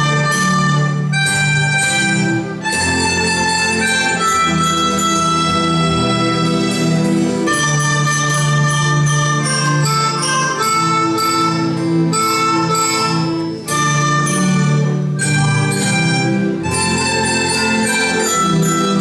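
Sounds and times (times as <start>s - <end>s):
melodicas and flutes: 0.0s - 19.0s.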